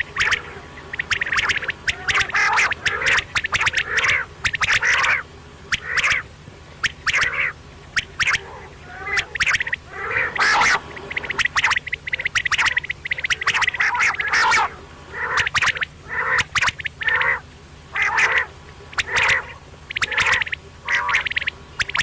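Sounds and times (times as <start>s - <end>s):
quail calling: 0.0s - 22.0s.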